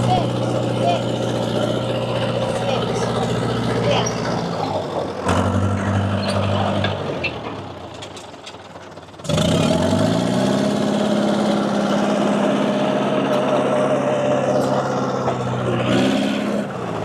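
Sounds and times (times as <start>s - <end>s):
diesel engine running: 0.0s - 17.0s
engine whine: 0.0s - 17.0s.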